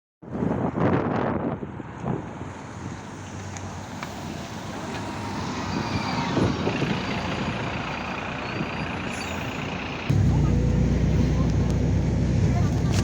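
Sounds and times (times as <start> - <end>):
bus engine rumbling: 1.6 - 13.0.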